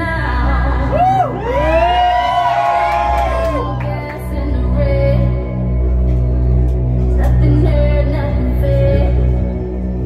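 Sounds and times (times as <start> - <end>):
pop song through speakers: 0.0 - 10.0.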